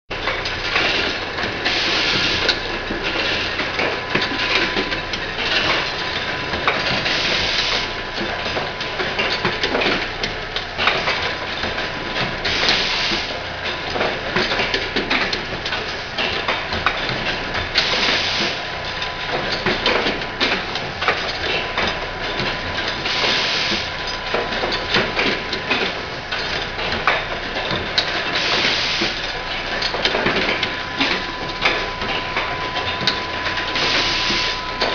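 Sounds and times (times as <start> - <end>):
machine clattering metal clicks: 0.2 - 34.9.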